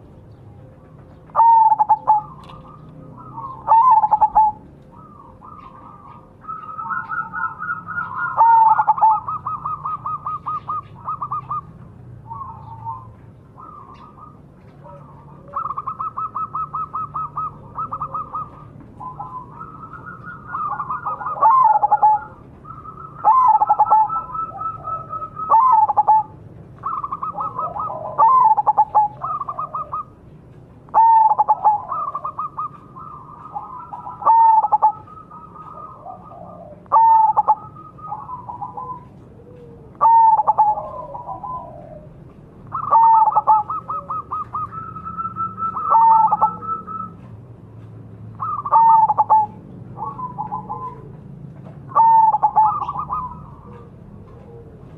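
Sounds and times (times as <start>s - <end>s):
dove cooing: 0.0s - 47.4s, 48.3s - 54.9s.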